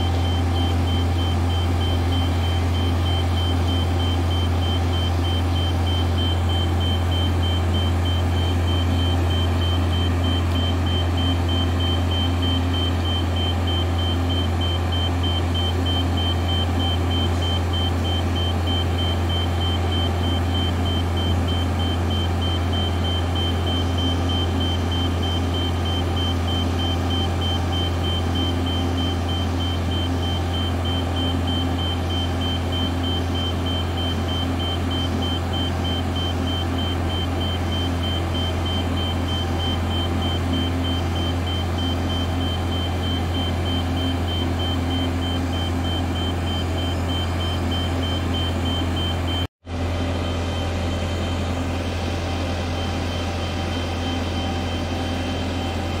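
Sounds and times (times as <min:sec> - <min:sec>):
high-pitched warning beeper: 0:00.0 - 0:49.5.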